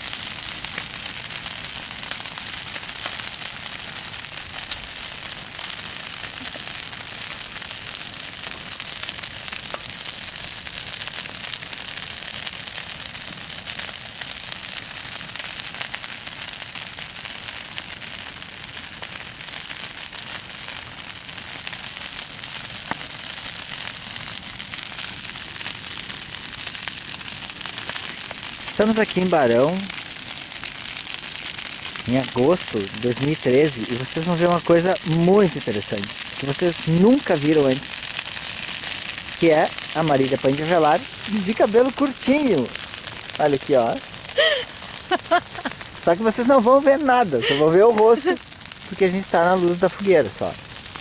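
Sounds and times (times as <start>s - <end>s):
bonfire crackling: 0.0s - 51.0s.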